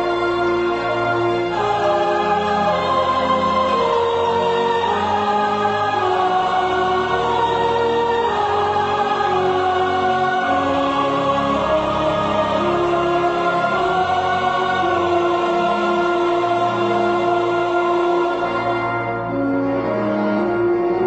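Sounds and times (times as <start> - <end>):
choir holding long notes: 0.0 - 21.0
low sustained accompaniment: 0.0 - 21.0.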